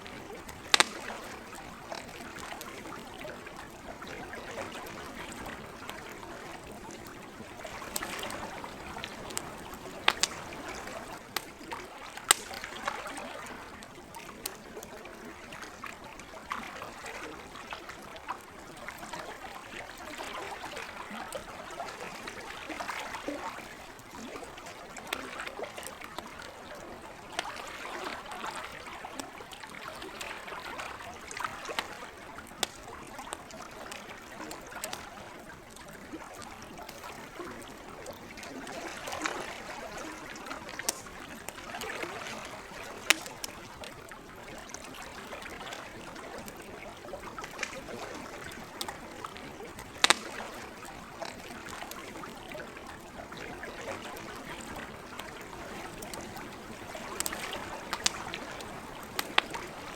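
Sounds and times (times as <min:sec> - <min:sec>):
campfire popping and crackling: 0:00.0 - 0:15.8, 0:17.3 - 0:59.9
lake water lapping: 0:00.0 - 0:59.9.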